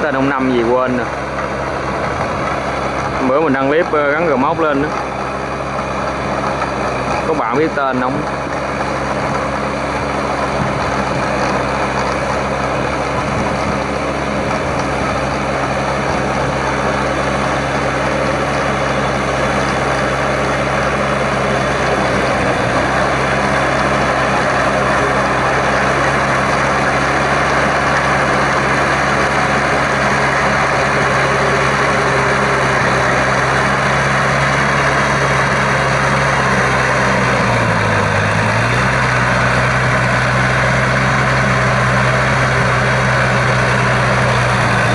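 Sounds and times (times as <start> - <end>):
tractor diesel engine under load: 0.0 - 44.9.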